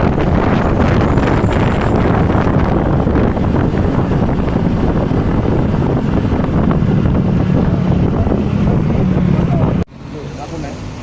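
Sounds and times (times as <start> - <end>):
wind buffeting microphone: 0.0 - 9.9
bus running: 0.0 - 11.0.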